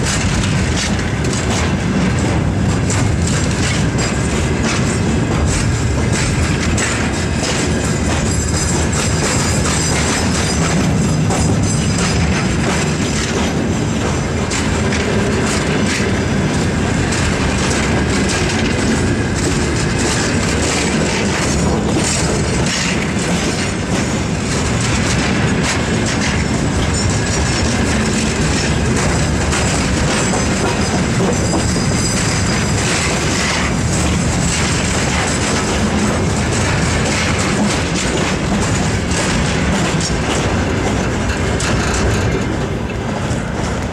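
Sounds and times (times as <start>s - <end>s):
steel wheels rumbling on rails: 0.0s - 43.9s
wheels clicking over rail joints: 0.0s - 43.9s.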